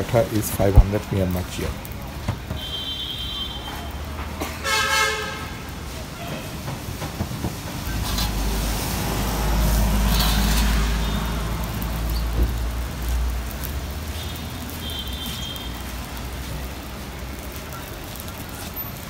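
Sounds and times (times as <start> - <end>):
vehicle passing on wet street: 0.0 - 19.0.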